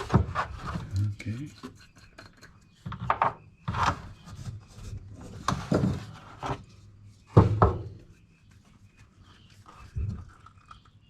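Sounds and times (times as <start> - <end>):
lumber scraping and knocking: 0.0 - 10.9.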